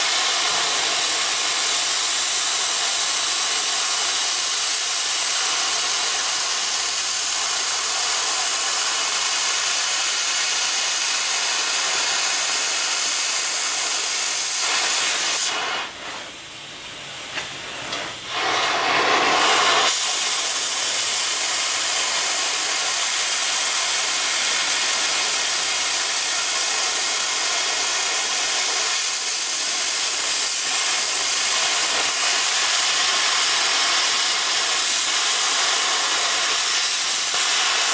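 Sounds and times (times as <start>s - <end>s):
cutting torch hissing: 0.0s - 16.4s, 17.3s - 37.9s.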